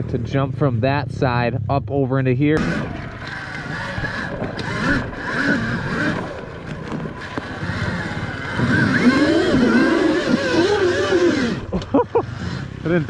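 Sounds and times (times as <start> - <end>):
dirt bike engine revving: 2.5 - 13.0.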